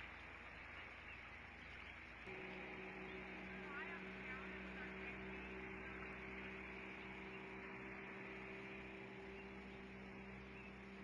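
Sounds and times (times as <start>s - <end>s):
distant motorboat engine drone: 0.0s - 11.0s.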